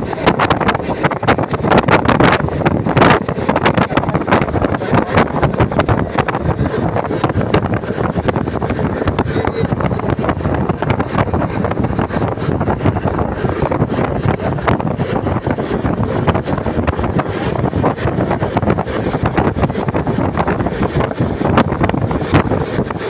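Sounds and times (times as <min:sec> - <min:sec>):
train wheel and track noise: 0:00.0 - 0:23.0
wind buffeting microphone: 0:00.0 - 0:23.0.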